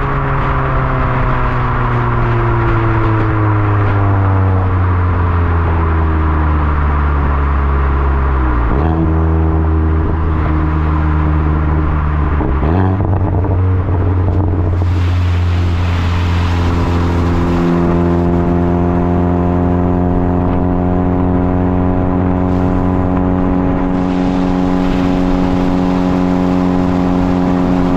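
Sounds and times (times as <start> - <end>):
car engine revving while driving: 0.1 - 27.9.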